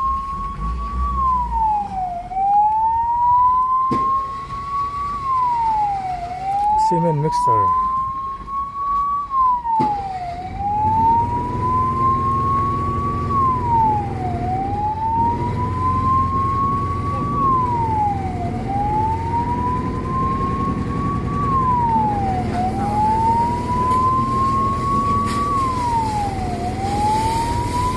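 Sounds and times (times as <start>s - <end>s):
fire engine siren wailing: 0.0s - 27.9s
low engine rumble: 0.0s - 27.9s.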